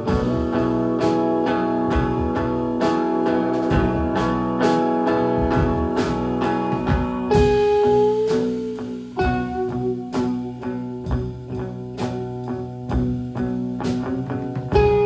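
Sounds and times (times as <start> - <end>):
guitar strumming: 0.0 - 15.0
live band playing: 0.0 - 15.0.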